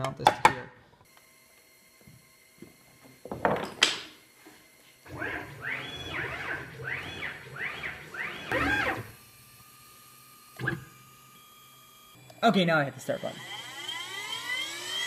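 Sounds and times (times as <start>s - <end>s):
motors whining up and down: 1.0s - 15.0s.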